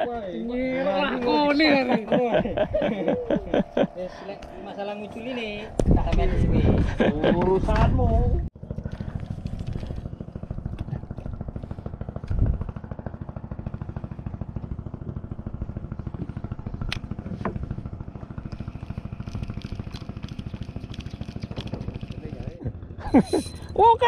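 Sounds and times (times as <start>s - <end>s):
boat engine throbbing: 0.0s - 24.0s.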